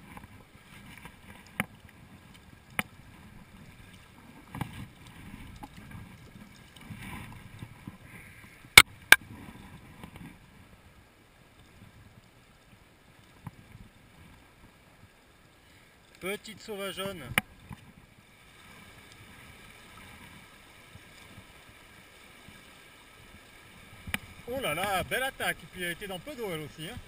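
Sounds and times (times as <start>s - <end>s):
stream water splashing: 0.0s - 27.0s.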